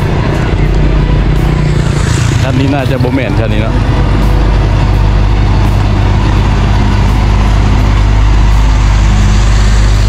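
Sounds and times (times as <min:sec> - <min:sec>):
truck driving past: 0:00.0 - 0:10.0.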